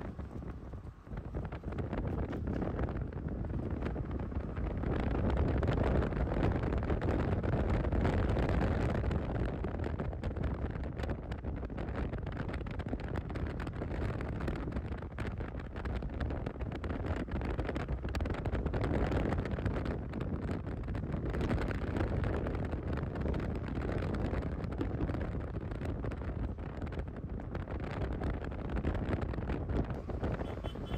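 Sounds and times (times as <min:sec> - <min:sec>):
engine and road rumble: 0:00.0 - 0:30.9
wind on microphone: 0:00.0 - 0:30.9.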